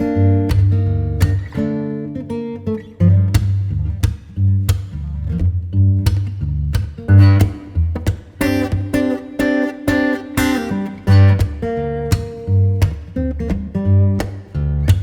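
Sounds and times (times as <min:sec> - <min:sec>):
steady bass line: 0:00.0 - 0:02.0, 0:02.9 - 0:15.0
plucked guitar music: 0:00.0 - 0:15.0.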